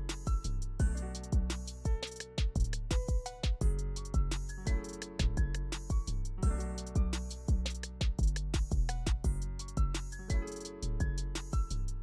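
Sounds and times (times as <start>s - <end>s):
deep kick drum hits: 0.0s - 10.0s, 11.0s - 11.2s
hi-hat and snare strokes: 0.0s - 12.0s.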